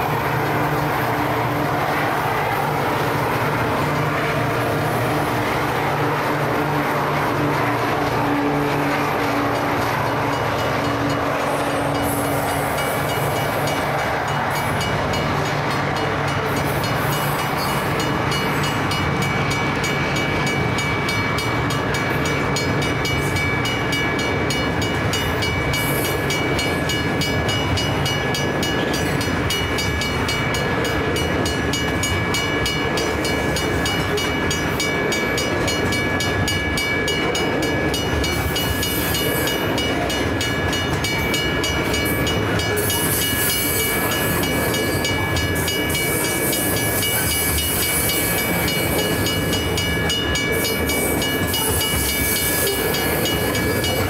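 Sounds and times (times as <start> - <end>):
crossing bell ringing: 0.0 - 54.0
diesel locomotive hum: 0.0 - 54.0
train wagons rumbling and clattering: 0.0 - 54.0.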